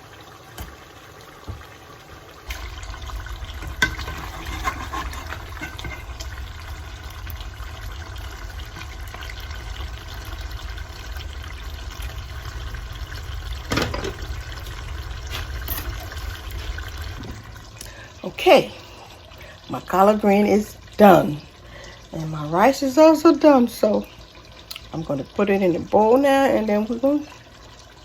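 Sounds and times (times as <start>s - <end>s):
pot bubbling on stove: 0.0s - 28.0s.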